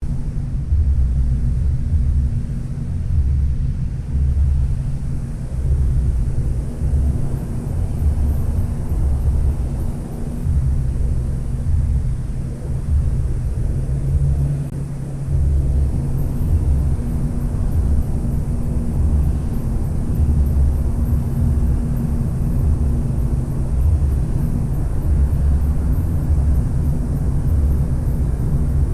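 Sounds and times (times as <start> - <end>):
boat engine running: 5.4 - 28.9.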